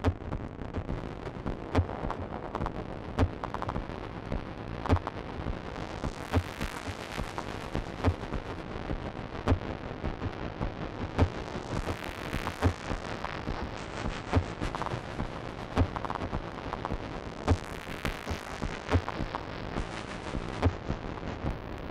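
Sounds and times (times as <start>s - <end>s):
crackling noisy synth texture: 0.0s - 21.9s.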